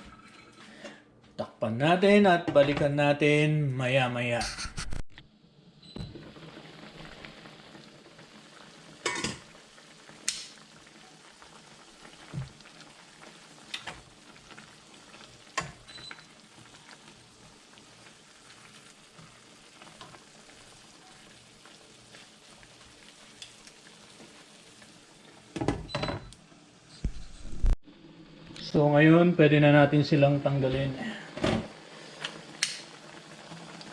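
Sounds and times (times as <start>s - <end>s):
pot sizzling and bubbling: 4.4s - 33.9s.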